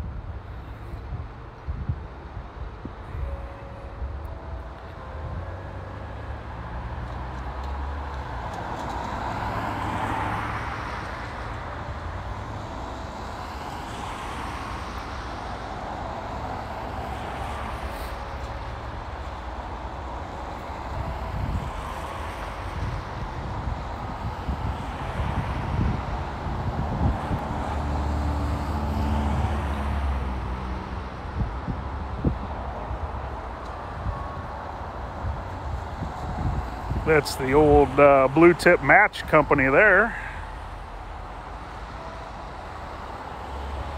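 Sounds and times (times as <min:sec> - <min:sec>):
cars passing by: 0:00.0 - 0:43.9
steady low traffic rumble: 0:00.0 - 0:43.9.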